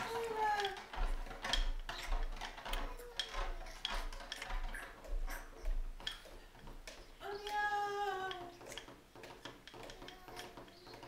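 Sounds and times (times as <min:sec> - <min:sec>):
irregular clicks and knocks: 0:00.0 - 0:11.0.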